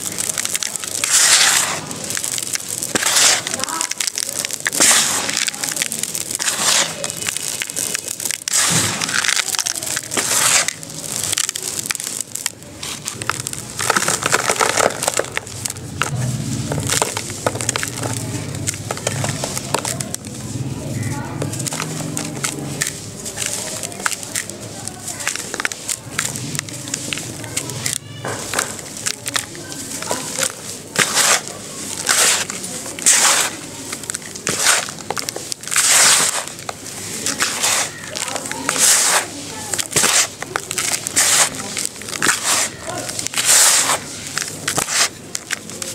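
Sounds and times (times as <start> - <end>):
clumps crackling: 0.0 - 45.9
hands crunching dry sand-cement mix: 0.0 - 45.9.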